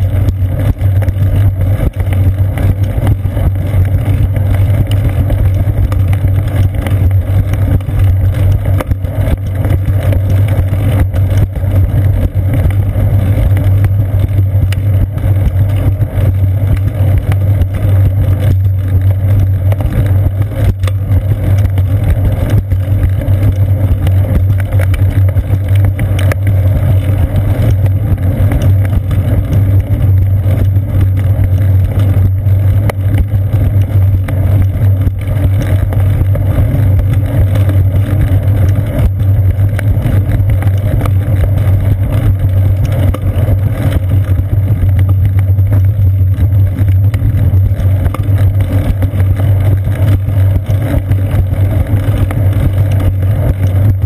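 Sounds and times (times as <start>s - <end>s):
bicycle rolling on concrete: 0.0s - 54.0s
low hum: 0.0s - 54.0s.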